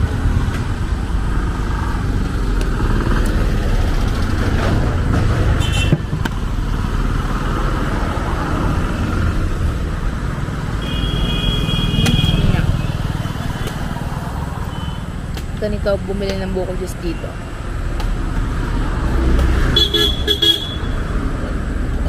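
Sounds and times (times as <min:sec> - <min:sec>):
motorcycles and cars passing: 0:00.0 - 0:22.0.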